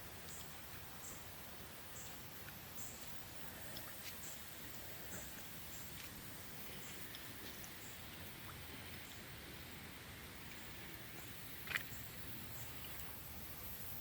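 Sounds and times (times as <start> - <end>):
light rain patter: 0.0 - 14.0.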